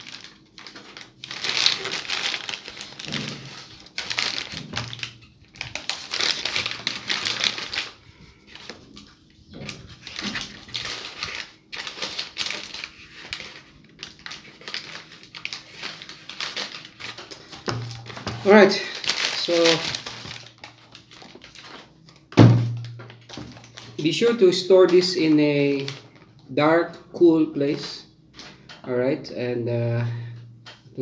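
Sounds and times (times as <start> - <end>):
paper crinkling and rustling: 0.0 - 26.6, 27.2 - 29.0.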